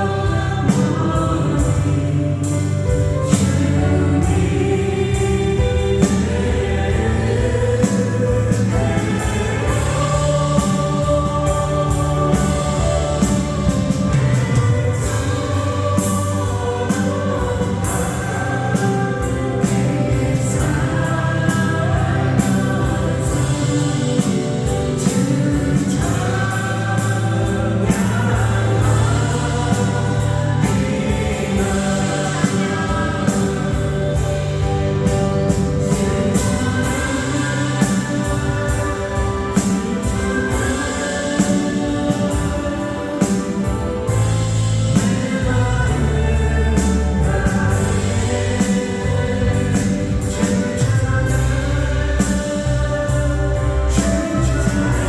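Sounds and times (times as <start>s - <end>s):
band with bass and drums: 0.0s - 55.0s
voices singing together: 0.0s - 55.0s.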